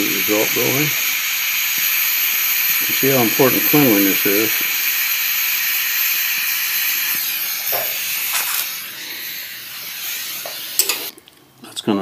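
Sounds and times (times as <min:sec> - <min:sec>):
torch flame hissing: 0:00.0 - 0:11.2.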